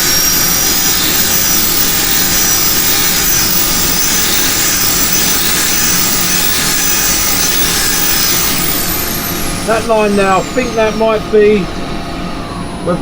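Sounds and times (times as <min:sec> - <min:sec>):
wood lathe sanding rush: 0:00.0 - 0:13.0.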